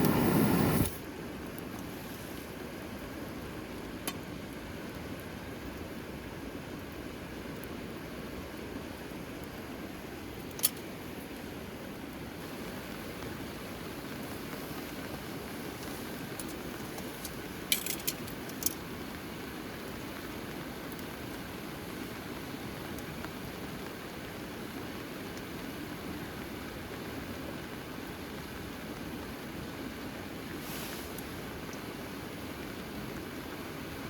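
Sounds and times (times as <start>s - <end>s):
falling rain: 0.0s - 34.0s.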